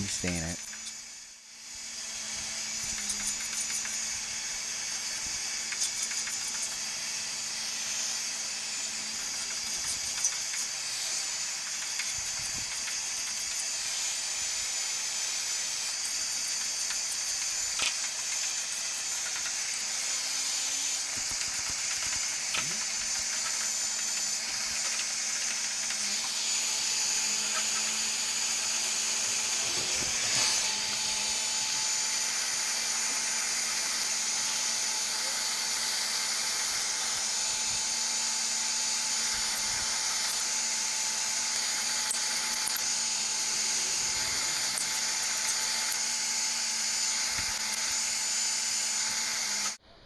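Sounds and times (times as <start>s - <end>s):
hot air hissing: 0.0s - 0.8s, 1.8s - 49.8s
heat gun motor hum: 0.0s - 49.8s.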